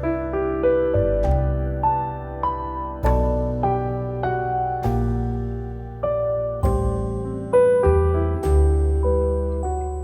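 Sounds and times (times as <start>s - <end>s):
soft piano melody: 0.0s - 10.0s.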